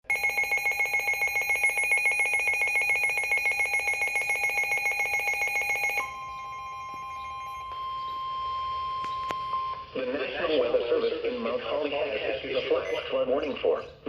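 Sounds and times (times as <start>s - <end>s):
weather radio alarm beeps: 0.0s - 11.8s, 12.5s - 13.4s.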